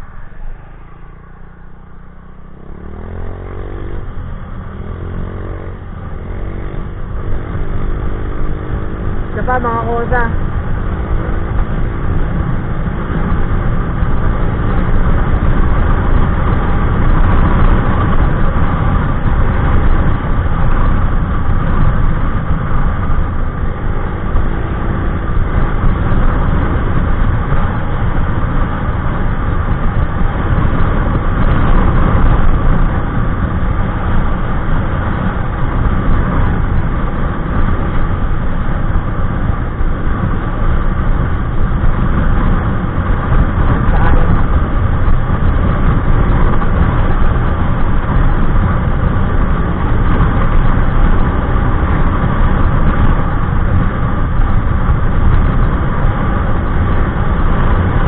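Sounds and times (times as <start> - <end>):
motorcycle engine at high speed: 0.0 - 58.0
wind rushing across microphone: 0.0 - 58.0.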